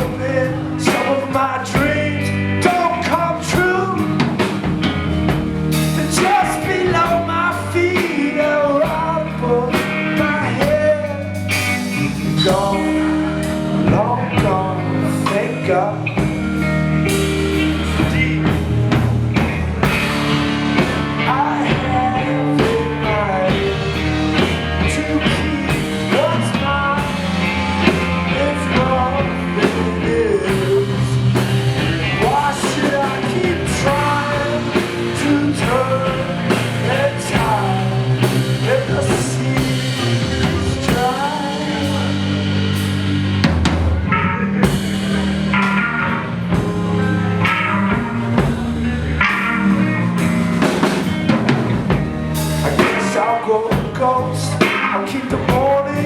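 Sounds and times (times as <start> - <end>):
drum kit steady beat: 0.0 - 15.6, 16.2 - 56.0
guitars: 0.0 - 56.0
rock band playing: 0.0 - 56.0.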